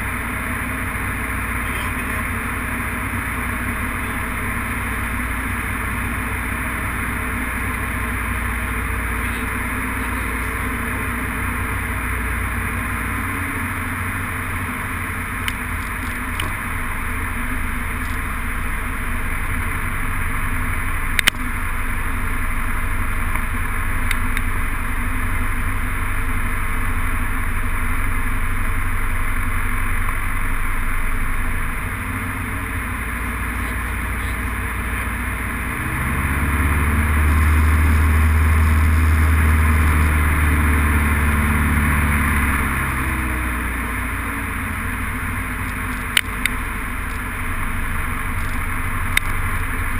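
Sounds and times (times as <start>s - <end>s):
light airplane engine and propeller: 0.0s - 49.9s.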